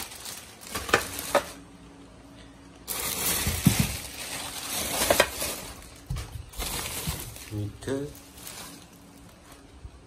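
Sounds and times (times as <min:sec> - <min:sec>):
plastic wrap crinkling: 0:00.0 - 0:01.7, 0:02.8 - 0:10.0.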